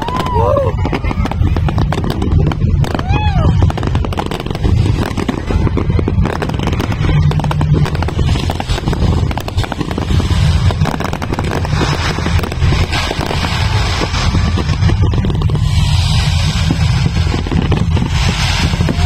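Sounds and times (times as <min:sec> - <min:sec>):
fireworks crackling and popping: 0:00.0 - 0:19.0
low background rumble: 0:00.0 - 0:19.0.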